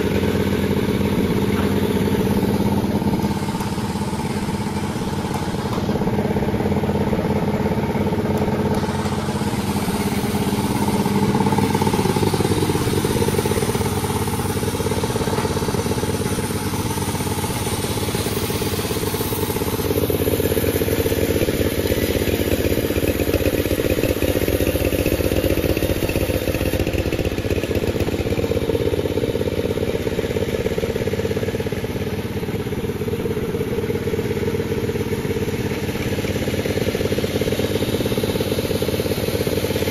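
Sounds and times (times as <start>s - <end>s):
sawmill machine drone: 0.0s - 39.9s.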